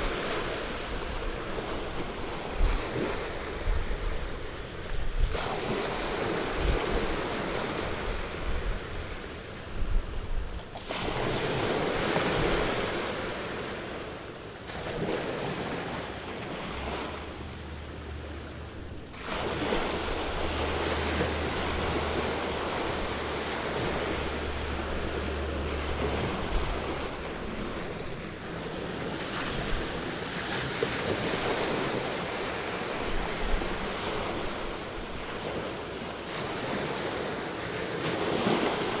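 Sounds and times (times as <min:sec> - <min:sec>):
waves breaking: 0:00.0 - 0:39.0.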